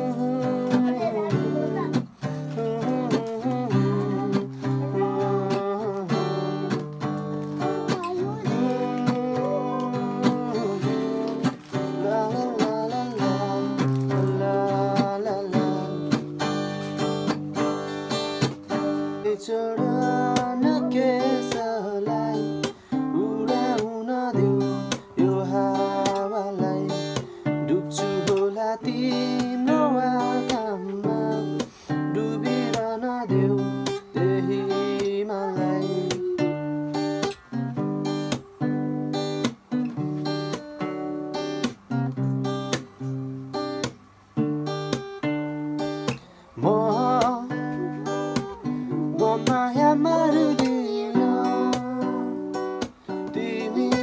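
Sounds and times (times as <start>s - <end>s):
acoustic guitar strumming and picking: 0.0s - 54.0s.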